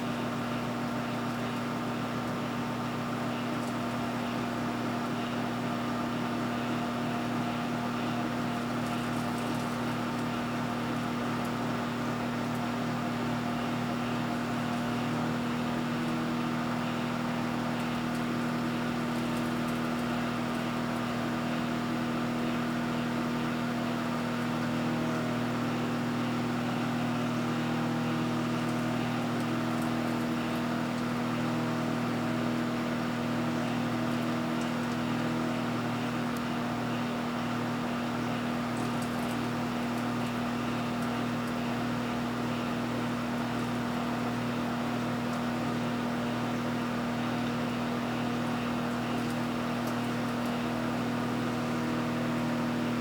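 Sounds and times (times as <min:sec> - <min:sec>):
microwave oven humming: 0:00.0 - 0:53.0.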